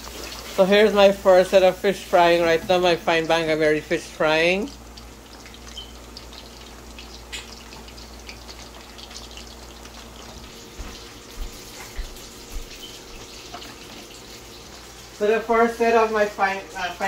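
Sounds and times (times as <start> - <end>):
fish deep-frying in oil: 0.0 - 17.0.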